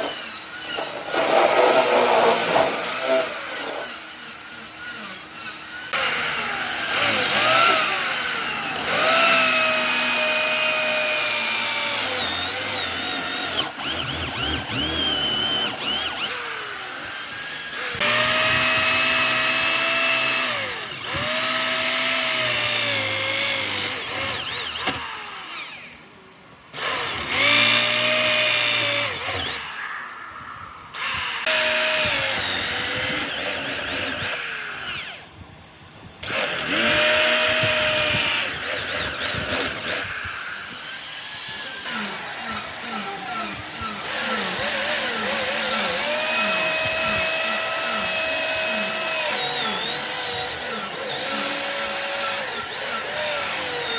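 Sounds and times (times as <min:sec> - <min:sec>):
electric power tool whining: 0:00.0 - 0:26.1, 0:26.7 - 0:35.4, 0:36.0 - 0:53.9.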